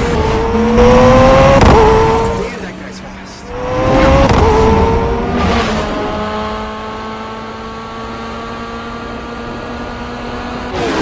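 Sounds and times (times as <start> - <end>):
racing car engine accelerating: 0.0 - 11.0.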